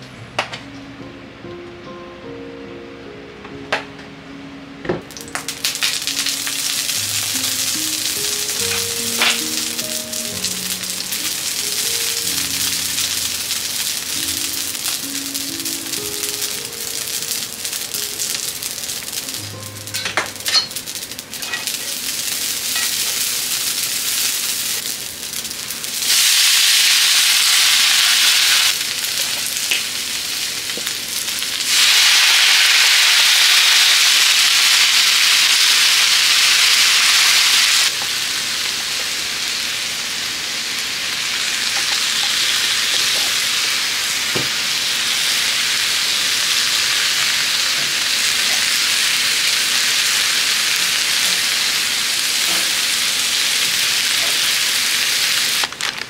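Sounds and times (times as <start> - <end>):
food sizzling in oil: 5.1 - 56.0.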